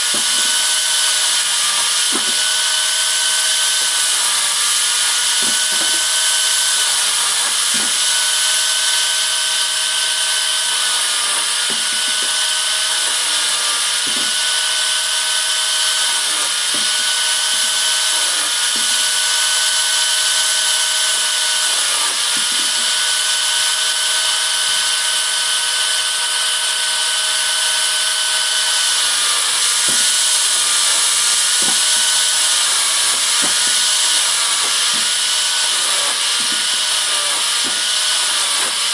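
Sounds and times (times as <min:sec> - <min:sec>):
chainsaw cutting branches: 0:00.0 - 0:38.9.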